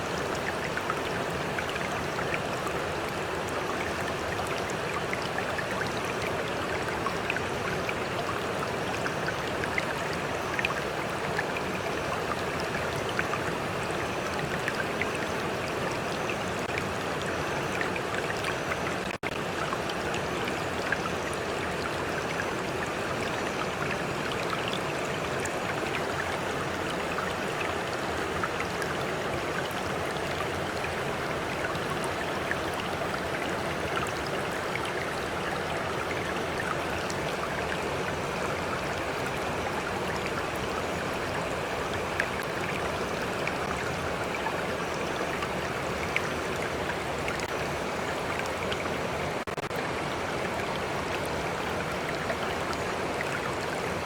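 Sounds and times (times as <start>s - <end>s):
stream water babbling: 0.0s - 54.0s.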